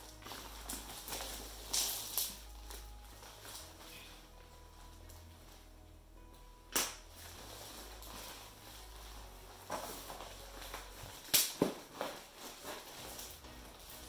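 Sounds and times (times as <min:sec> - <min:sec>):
plastic bag rustling: 0:00.0 - 0:05.8, 0:07.0 - 0:14.0.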